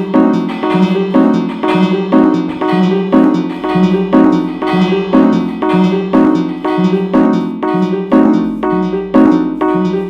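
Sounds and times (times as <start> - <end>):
piano-like melody over a beat: 0.0 - 10.0.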